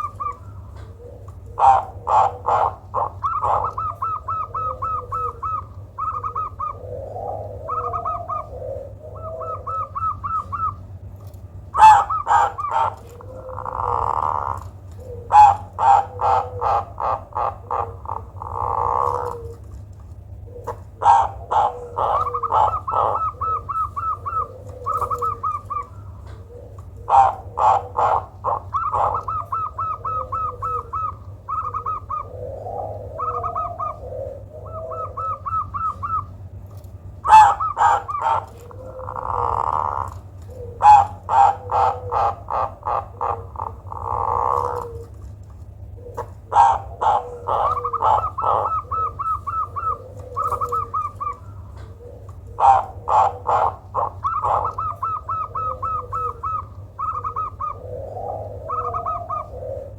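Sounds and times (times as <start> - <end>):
dove cooing: 0.0 - 59.9
steady low hum: 0.0 - 59.9.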